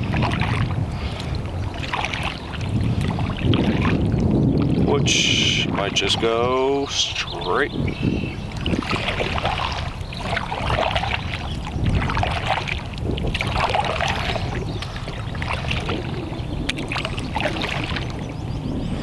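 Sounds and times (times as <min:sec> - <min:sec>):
paddle splashing in water: 0:00.0 - 0:19.0
steady low rumble: 0:00.0 - 0:19.0
water sloshing along hull: 0:00.0 - 0:19.0.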